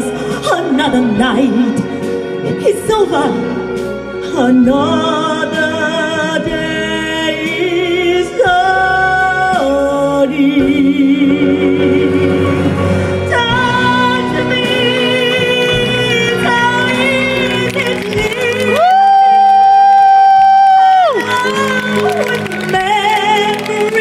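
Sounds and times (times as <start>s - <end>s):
woman singing a slow ballad: 4.2s - 24.0s.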